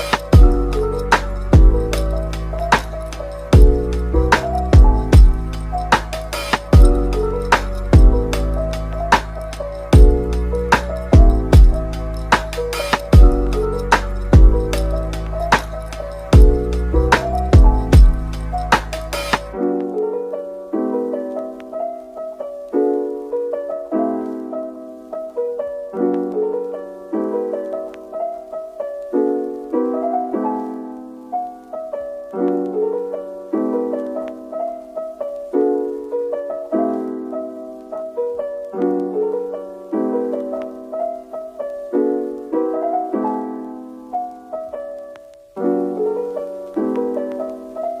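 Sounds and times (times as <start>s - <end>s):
gentle piano chords: 0.0s - 48.0s.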